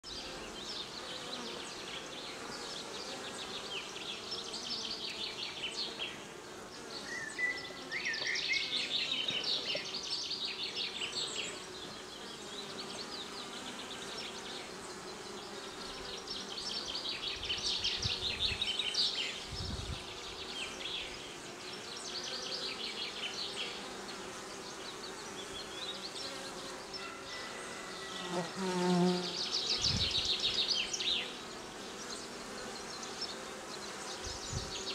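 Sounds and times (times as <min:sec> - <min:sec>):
bees buzzing: 0:00.1 - 0:34.9.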